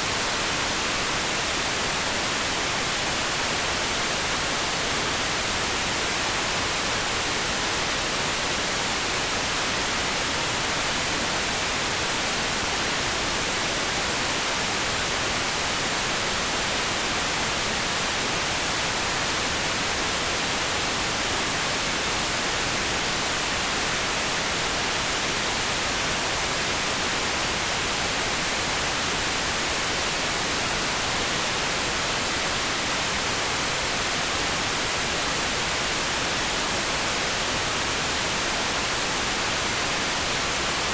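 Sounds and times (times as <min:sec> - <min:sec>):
steady pink noise hiss: 0:00.0 - 0:40.9.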